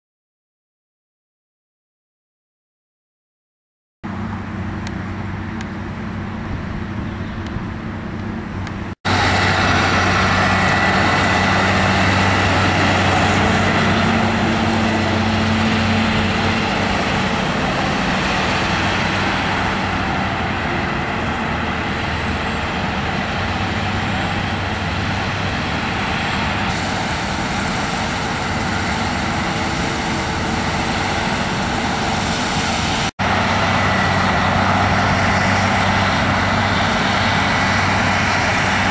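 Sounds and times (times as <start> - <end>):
combine harvester engine drone: 4.0 - 38.9
threshing machinery rushing: 7.6 - 38.9.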